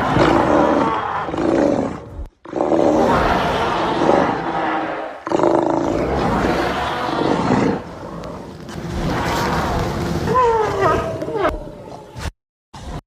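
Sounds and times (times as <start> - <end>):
monster roaring: 0.0 - 12.1.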